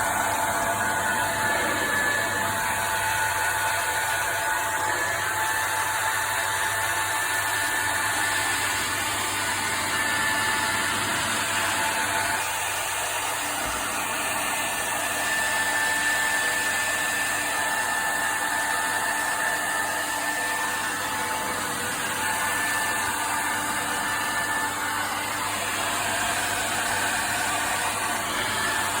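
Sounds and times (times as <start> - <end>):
hair dryer running: 0.0 - 29.0.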